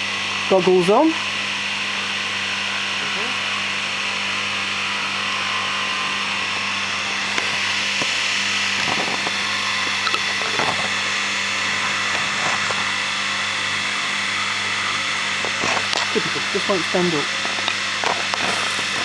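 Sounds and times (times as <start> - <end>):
motor whirring hum with hiss: 0.5 - 19.0.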